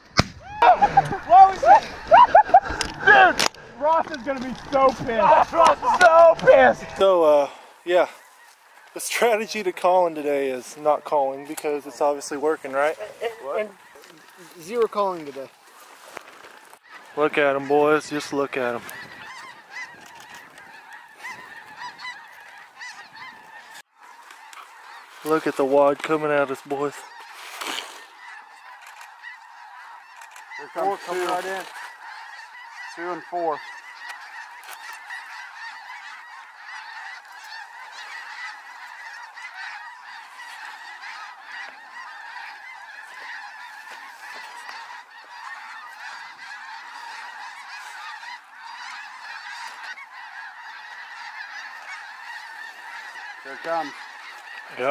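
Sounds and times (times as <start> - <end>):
flock of geese honking: 0.0 - 54.9.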